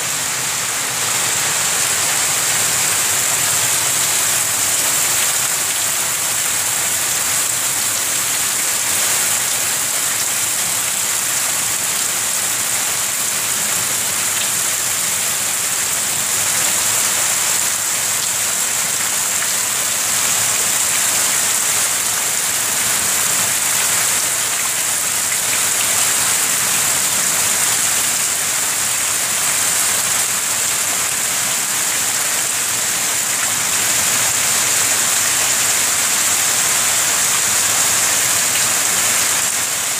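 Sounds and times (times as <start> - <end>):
heavy rain on standing water: 0.0 - 39.9.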